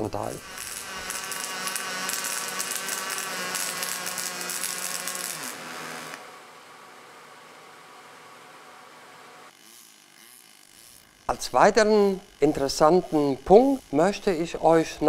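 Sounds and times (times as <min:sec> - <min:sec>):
welding arc crackling buzz: 0:00.0 - 0:15.0.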